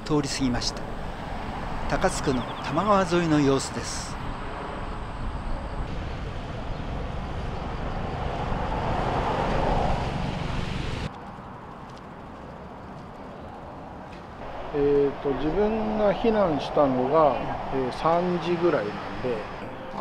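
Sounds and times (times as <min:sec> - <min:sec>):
outdoor background noise: 0:00.0 - 0:20.0
vehicle passing: 0:00.0 - 0:20.0.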